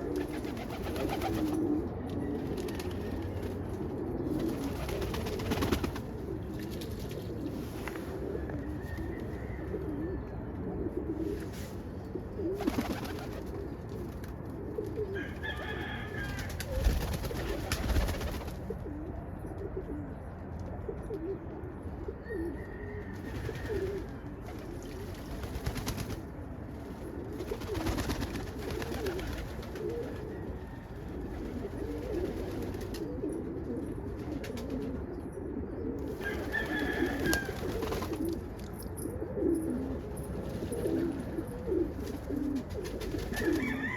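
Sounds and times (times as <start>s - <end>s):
pigeons cooing: 0.0s - 43.9s.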